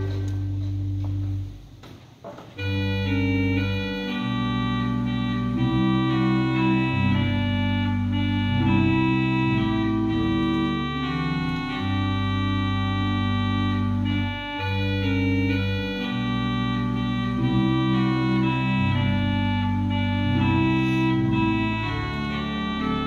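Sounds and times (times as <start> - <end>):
organ playing a hymn: 0.0 - 1.8, 2.6 - 23.0.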